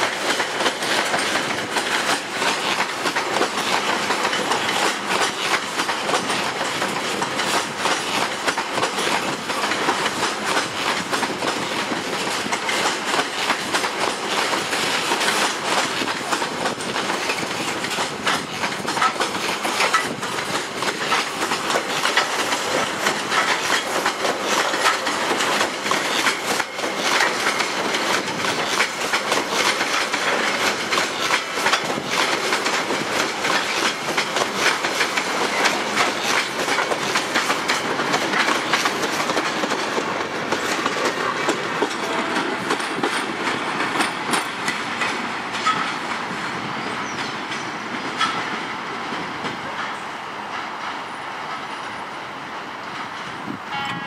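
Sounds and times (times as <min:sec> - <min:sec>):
rattling track noise: 0:00.0 - 0:54.0
train wheels clicking over rail joints: 0:00.0 - 0:54.0.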